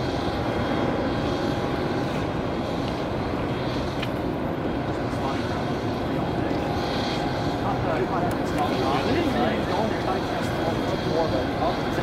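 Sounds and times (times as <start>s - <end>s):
jet aircraft noise: 0.0s - 12.0s.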